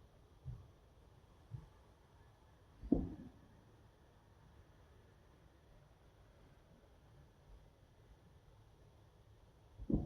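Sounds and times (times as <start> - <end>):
low rumble and hiss: 0.0 - 10.0.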